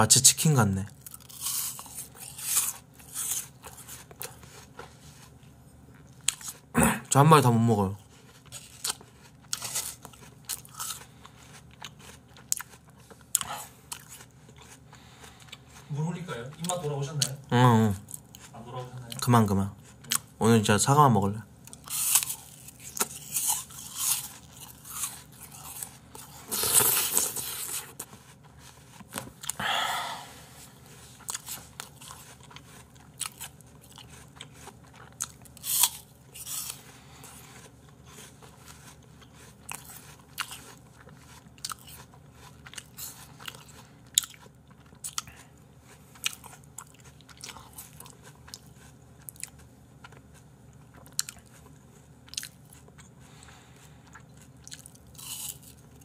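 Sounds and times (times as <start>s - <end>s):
apple crunching and chewing: 0.2s - 56.0s.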